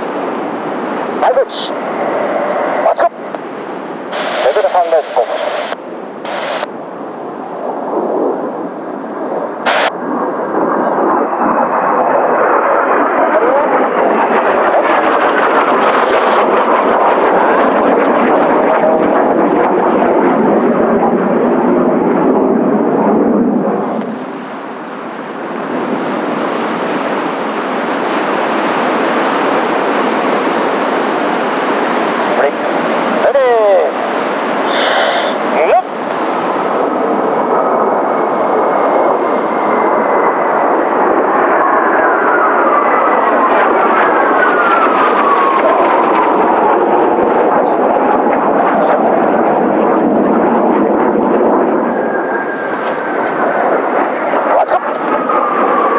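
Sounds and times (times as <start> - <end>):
jet engines passing overhead: 0.0 - 55.9.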